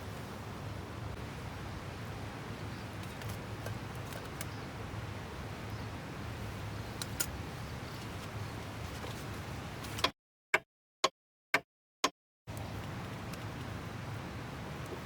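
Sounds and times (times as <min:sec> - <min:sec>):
outdoor background noise: 0:00.0 - 0:10.1, 0:12.5 - 0:15.0.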